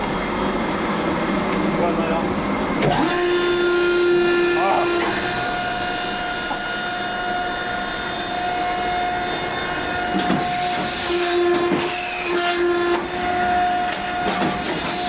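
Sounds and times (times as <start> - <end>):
machinery whine: 0.0 - 15.0.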